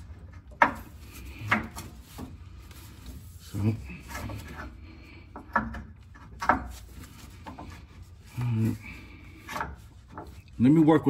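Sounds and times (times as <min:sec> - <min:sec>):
rubbing and scraping metal: 0:00.0 - 0:11.0.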